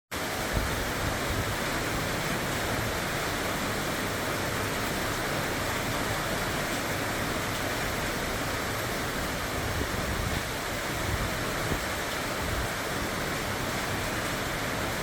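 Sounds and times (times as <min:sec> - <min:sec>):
rushing water: 0:00.1 - 0:15.0.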